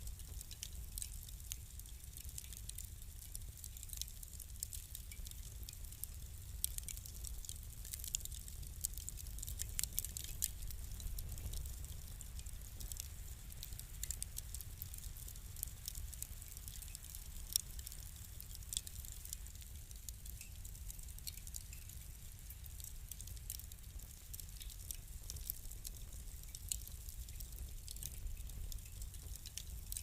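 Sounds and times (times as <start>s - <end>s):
fire crackling: 0.0s - 30.0s.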